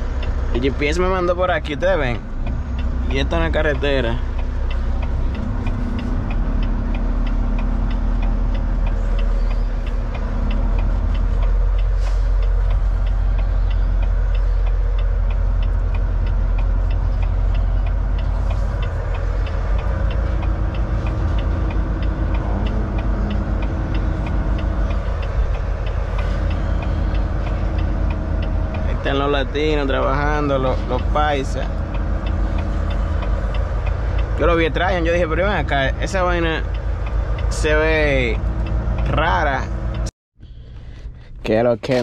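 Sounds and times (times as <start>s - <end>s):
fast light ticking: 0.0s - 40.1s
truck diesel engine rumble: 0.0s - 42.0s.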